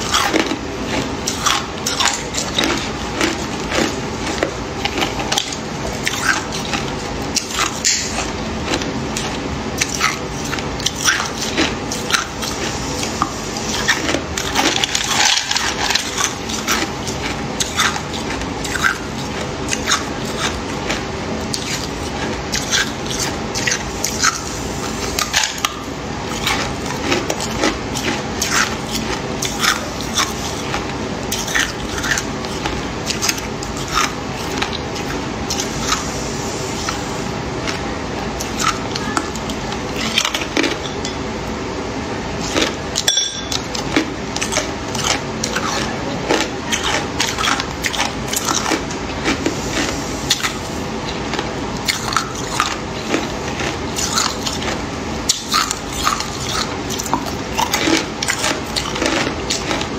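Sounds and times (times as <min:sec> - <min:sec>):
ice cubes being chewed: 0:00.0 - 0:36.1, 0:42.4 - 0:59.9.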